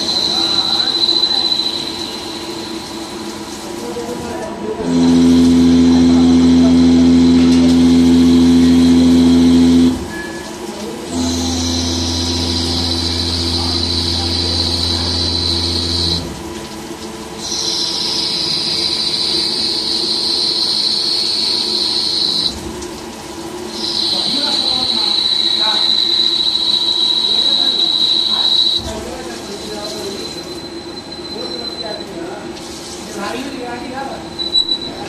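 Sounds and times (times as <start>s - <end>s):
lathe cutting metal squeal: 0.0s - 3.3s, 5.4s - 16.3s, 17.4s - 22.6s, 23.7s - 32.2s, 34.2s - 35.0s
coolant spray hissing: 0.0s - 30.6s, 32.4s - 33.8s.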